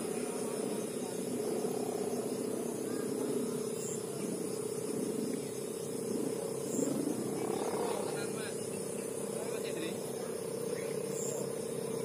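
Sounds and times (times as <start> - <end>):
kite hummer drone: 0.0 - 12.0.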